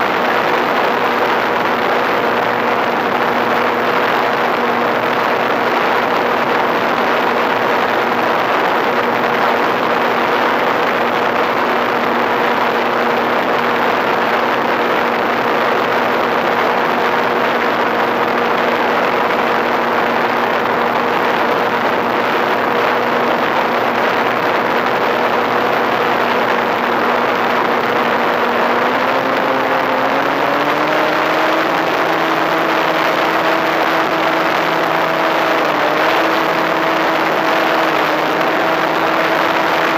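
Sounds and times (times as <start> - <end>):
electric motor and propeller hum: 0.0 - 39.9.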